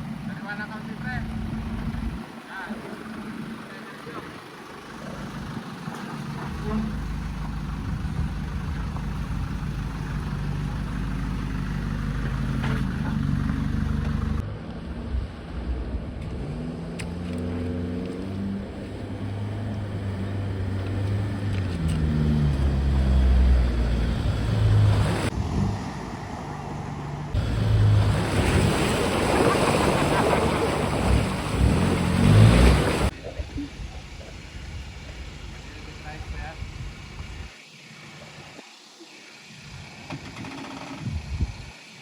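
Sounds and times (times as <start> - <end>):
vehicle engine running: 0.0 - 16.5, 17.1 - 42.0.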